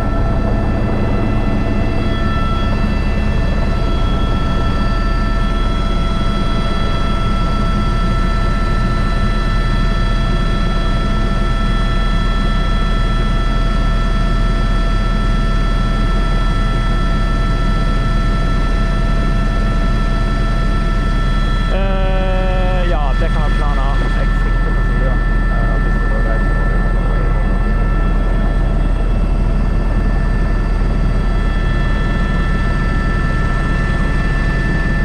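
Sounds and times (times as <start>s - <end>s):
helicopter engine whine: 0.0s - 35.0s.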